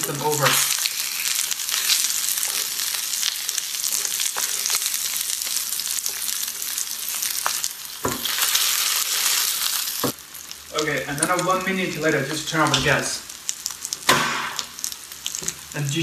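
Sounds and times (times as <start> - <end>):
oil sizzling in a pan: 0.0 - 16.0.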